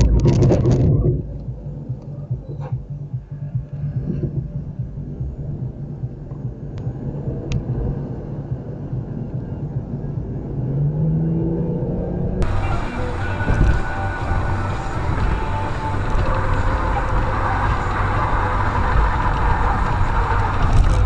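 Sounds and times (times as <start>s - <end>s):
low rumble of car driving: 0.0s - 21.0s.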